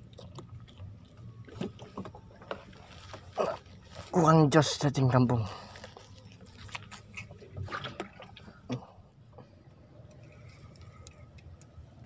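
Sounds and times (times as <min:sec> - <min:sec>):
handling noises in wooden boat: 0:00.0 - 0:12.0.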